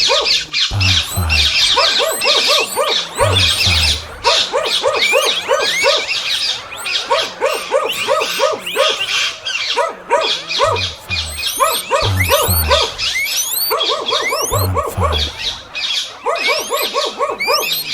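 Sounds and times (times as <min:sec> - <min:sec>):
birds chirping: 0:00.0 - 0:17.9
dogs barking: 0:00.0 - 0:17.9.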